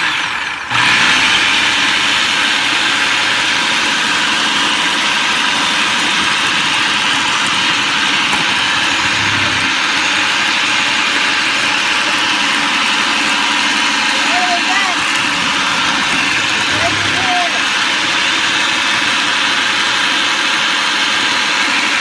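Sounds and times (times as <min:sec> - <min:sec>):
food processor running: 0:00.0 - 0:22.0.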